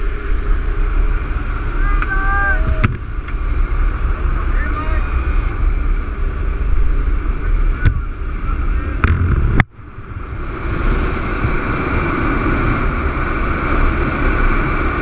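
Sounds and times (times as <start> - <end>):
plane engine and propeller roar: 0.0 - 15.0
wind rushing through open door: 0.0 - 15.0.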